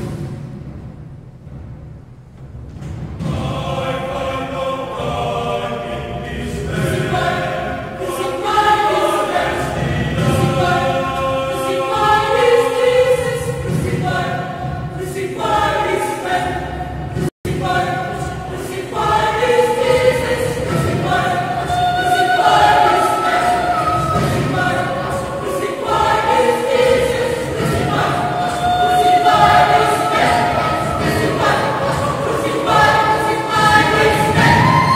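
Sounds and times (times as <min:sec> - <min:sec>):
mixed choir singing: 0:03.2 - 0:34.9.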